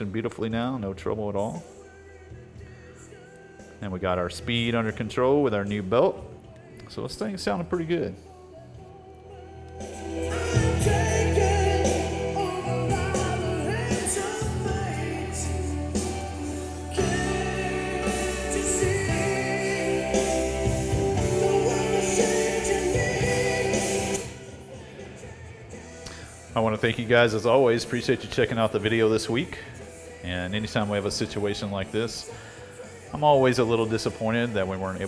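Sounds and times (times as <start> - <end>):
song playing from cassette: 0.0 - 35.0.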